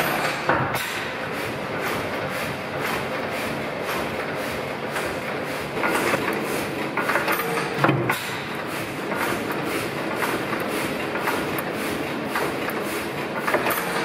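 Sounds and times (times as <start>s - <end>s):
engine knock: 0.0s - 14.0s
stationary engine clattering: 0.0s - 14.0s.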